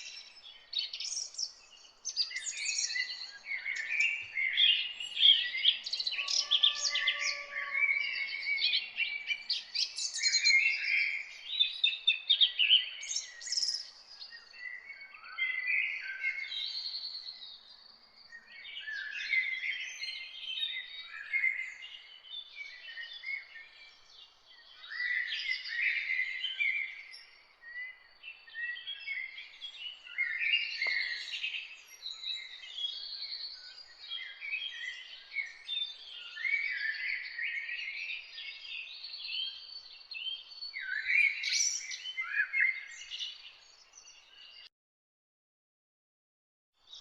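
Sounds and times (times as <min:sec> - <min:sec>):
songbirds singing and chirping: 0:00.0 - 0:44.7, 0:46.8 - 0:47.0.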